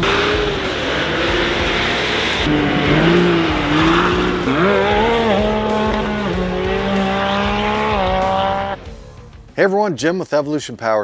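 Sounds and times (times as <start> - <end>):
utility vehicle engine revving: 0.0 - 9.5.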